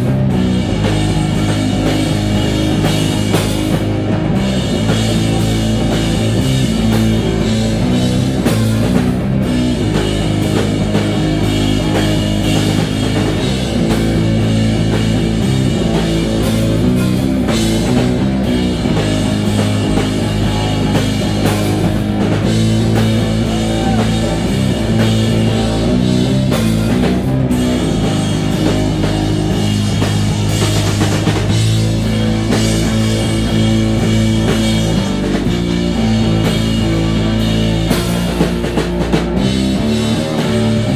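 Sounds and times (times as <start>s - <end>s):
drum kit: 0.0s - 40.9s
electric guitar: 0.0s - 40.9s.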